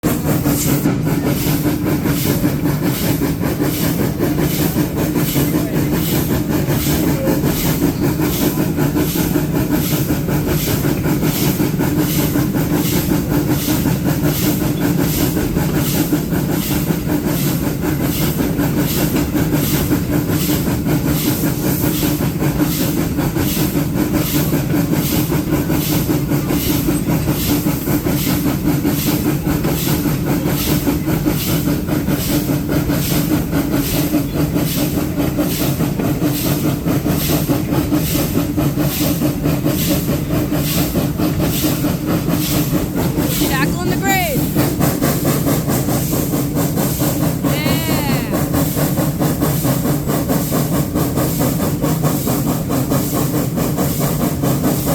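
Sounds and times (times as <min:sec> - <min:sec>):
steam hiss: 0:00.0 - 0:54.9
steam locomotive chuffing: 0:00.0 - 0:54.9
train rumble: 0:00.0 - 0:54.9.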